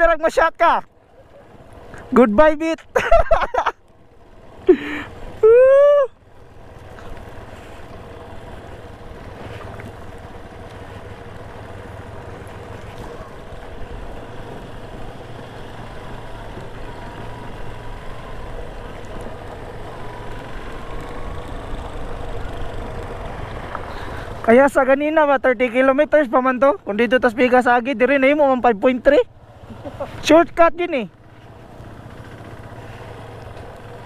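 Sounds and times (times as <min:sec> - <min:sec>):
wind and road noise: 0:00.0 - 0:34.0
motorcycle engine running: 0:00.9 - 0:34.0.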